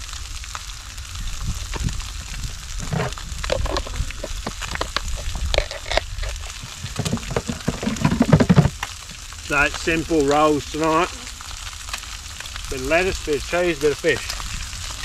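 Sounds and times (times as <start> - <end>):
fish skin sizzling in a pan: 0.0 - 15.0
sharp crackles and pops: 0.0 - 15.0.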